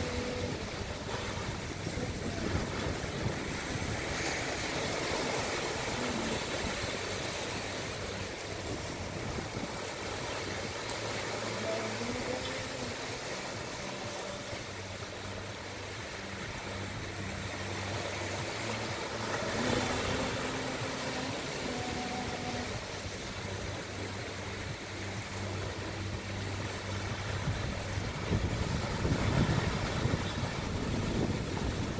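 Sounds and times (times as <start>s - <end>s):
low engine hum: 0.0s - 31.9s
small waves breaking on beach: 0.0s - 31.9s
wind rush on microphone: 0.0s - 31.9s.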